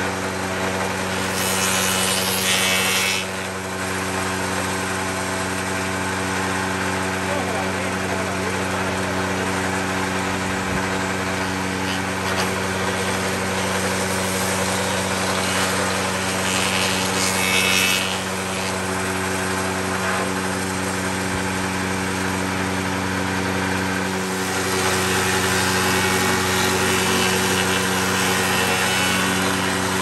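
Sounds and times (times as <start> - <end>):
cutter machining wood: 0.0 - 30.0
motor hum: 0.0 - 30.0.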